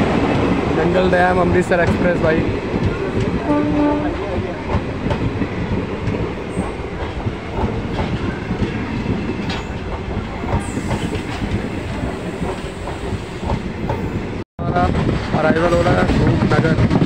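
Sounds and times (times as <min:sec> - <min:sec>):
train wheels clickety-clack: 0:00.0 - 0:17.0.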